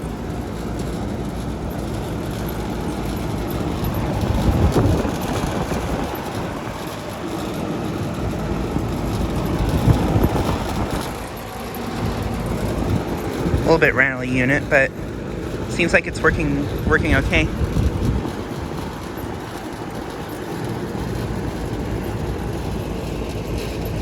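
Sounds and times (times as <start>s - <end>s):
air conditioner condenser running: 0.0s - 24.0s.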